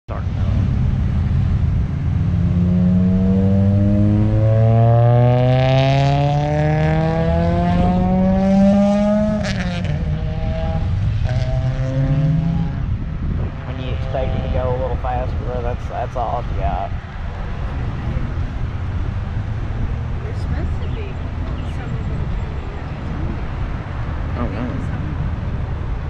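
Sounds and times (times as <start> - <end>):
vehicle engine accelerating hard: 0.1 - 26.0.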